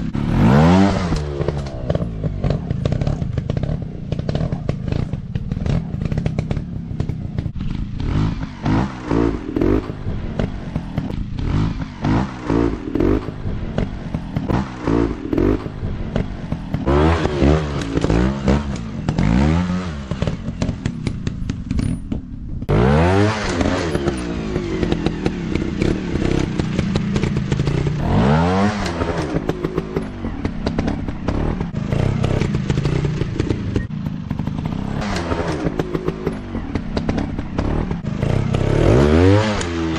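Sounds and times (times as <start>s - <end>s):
dirt bike engines revving: 0.0s - 22.0s, 22.6s - 39.9s.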